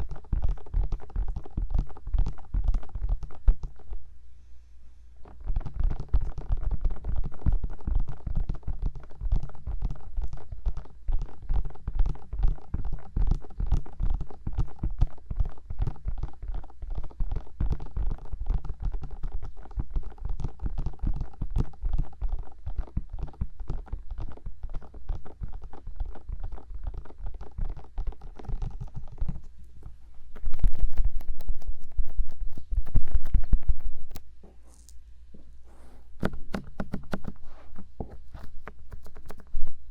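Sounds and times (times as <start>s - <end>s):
fingertips tapping on microphone: 0.0s - 4.0s, 5.2s - 39.8s.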